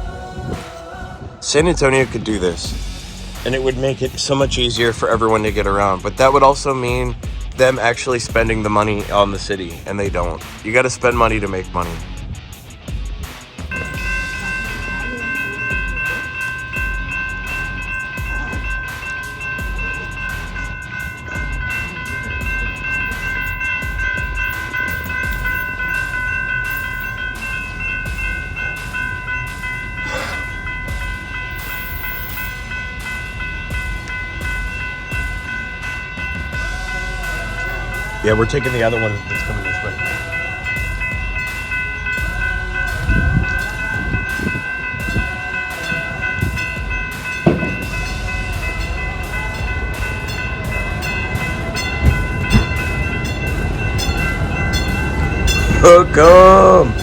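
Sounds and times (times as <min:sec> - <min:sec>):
high-pitched train whine: 0:00.0 - 0:57.0
rhythmic rail clatter: 0:00.0 - 0:57.0
train low rumble: 0:00.0 - 0:57.0.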